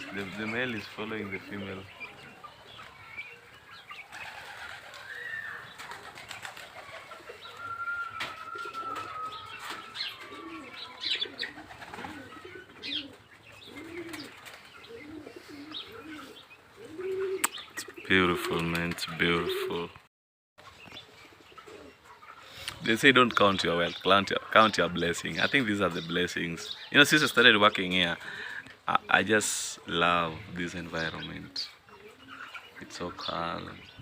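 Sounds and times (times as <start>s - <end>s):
pigeons cooing: 0.0s - 20.0s, 20.6s - 34.0s
small birds chirping: 0.0s - 20.0s, 20.6s - 34.0s.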